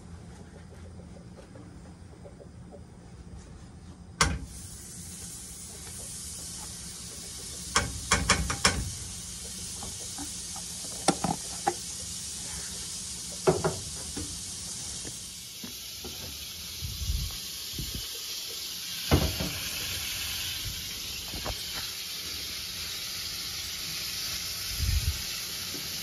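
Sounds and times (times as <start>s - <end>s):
fat sizzling in a hot pan: 4.3s - 26.0s.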